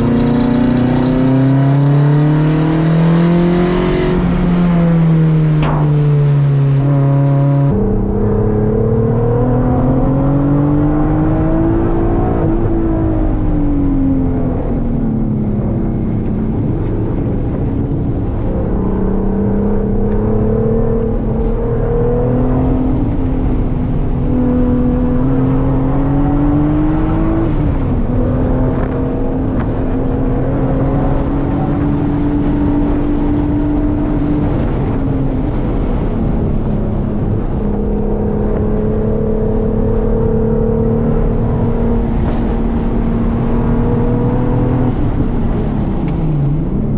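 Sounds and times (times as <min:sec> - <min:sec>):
car engine accelerating and slowing: 0:00.0 - 0:46.9.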